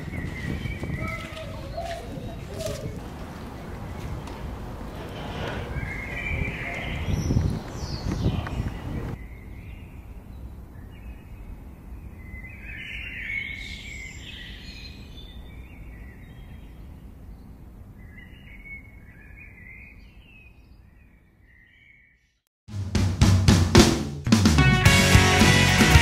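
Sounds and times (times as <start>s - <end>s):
birds chirping: 0.0s - 22.2s.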